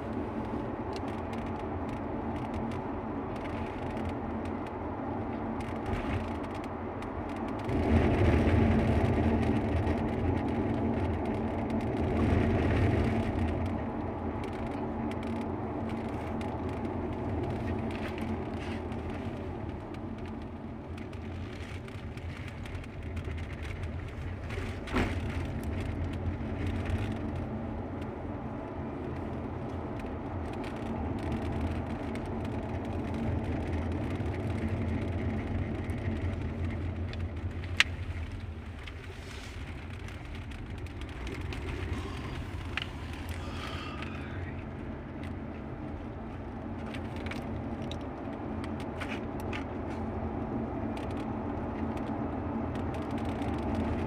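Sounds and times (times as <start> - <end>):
car engine and tyre hum: 0.0 - 54.0.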